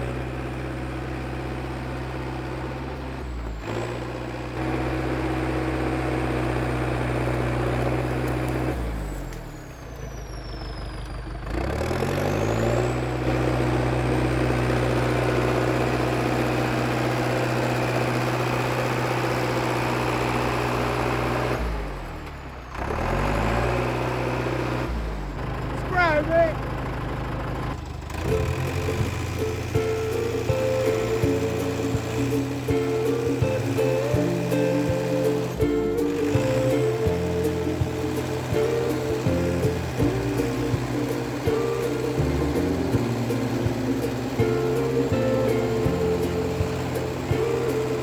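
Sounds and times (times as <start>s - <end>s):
bulldozer diesel engine revving: 0.0s - 48.0s.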